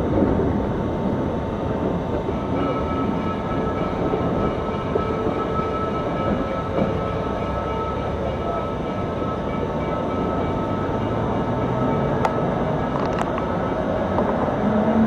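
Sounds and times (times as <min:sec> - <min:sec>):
steam locomotive rumble and hiss: 0:00.0 - 0:15.0.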